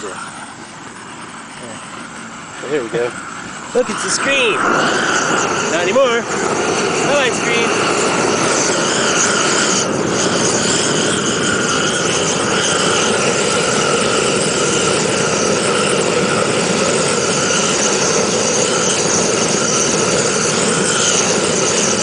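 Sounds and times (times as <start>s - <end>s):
blowtorch flame hissing: 0.0s - 22.0s.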